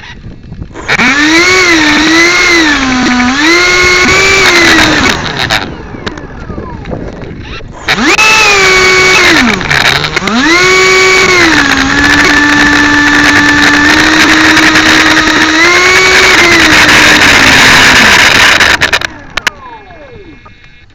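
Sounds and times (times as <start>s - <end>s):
small engine revving: 0.0s - 20.9s.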